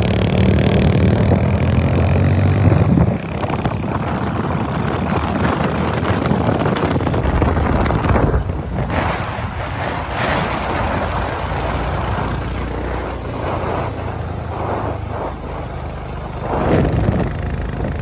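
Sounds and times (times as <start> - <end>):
motorcycle engine running: 0.0 - 9.2, 10.4 - 18.0
wind buffeting microphone: 0.0 - 18.0.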